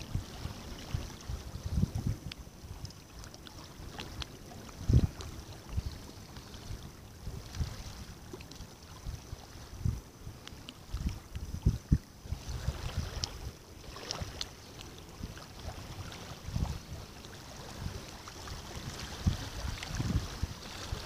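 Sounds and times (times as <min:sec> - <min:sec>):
waves lapping on pebbles: 0:00.0 - 0:21.0
wind buffeting microphone: 0:00.0 - 0:21.0.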